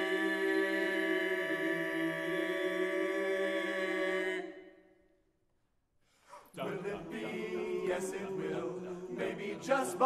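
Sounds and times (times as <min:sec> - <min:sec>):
men's choir singing a cappella: 0:00.0 - 0:04.8, 0:06.5 - 0:10.0.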